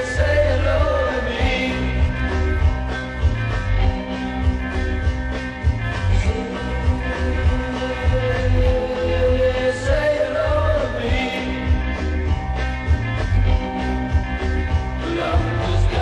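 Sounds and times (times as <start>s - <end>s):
rock and roll band playing: 0.0s - 16.0s
steady drum beat: 0.0s - 16.0s.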